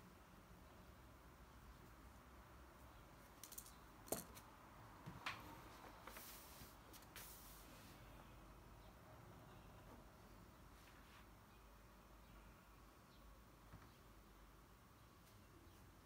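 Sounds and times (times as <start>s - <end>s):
faint room hiss: 0.0s - 16.0s.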